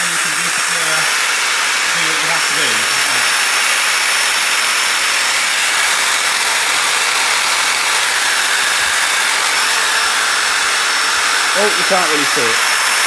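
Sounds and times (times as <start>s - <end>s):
electric drill whining: 0.0s - 13.0s.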